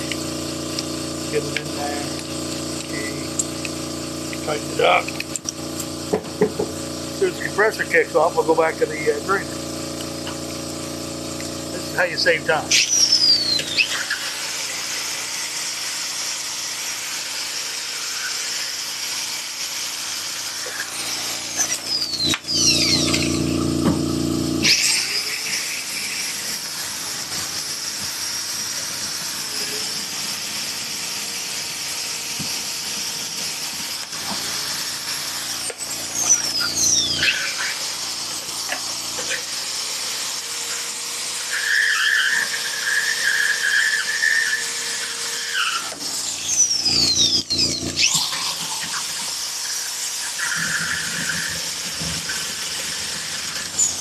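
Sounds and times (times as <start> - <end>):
air compressor motor running: 0.0 - 54.0
pneumatic rotary tool whining: 0.0 - 54.0.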